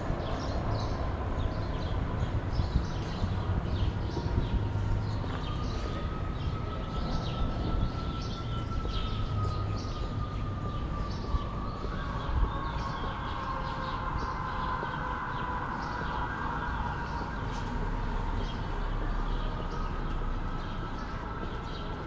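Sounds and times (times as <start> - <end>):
distant siren wailing: 0.0 - 22.0
low city street rumble: 0.0 - 22.0.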